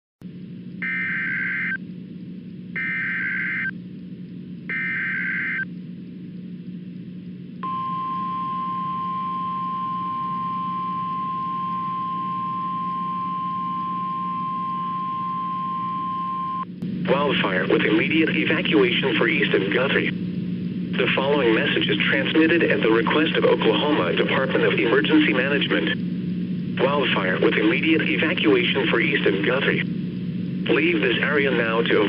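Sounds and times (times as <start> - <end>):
steady low hum: 0.2 - 32.0
steady attention tone: 0.4 - 32.0.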